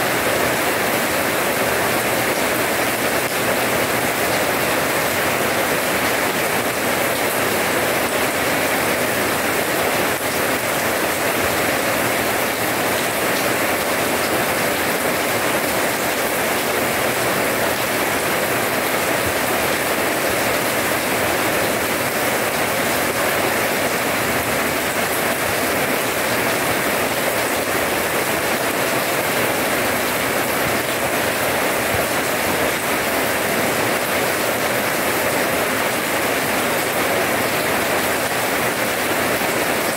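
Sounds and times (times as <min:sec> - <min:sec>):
rain on wet paving: 0:00.0 - 0:39.9.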